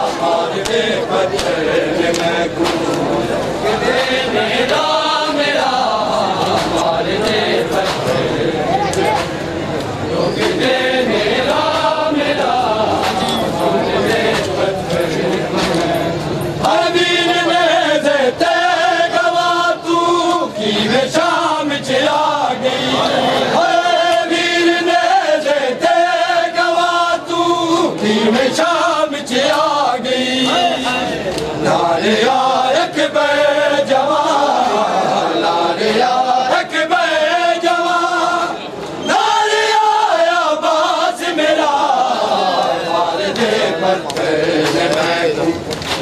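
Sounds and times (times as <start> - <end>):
men chanting in unison: 0.0 - 46.0.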